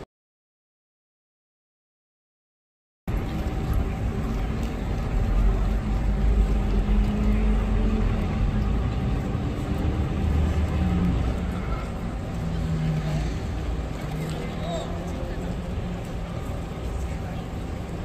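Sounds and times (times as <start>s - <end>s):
city traffic rumble: 3.1s - 18.0s.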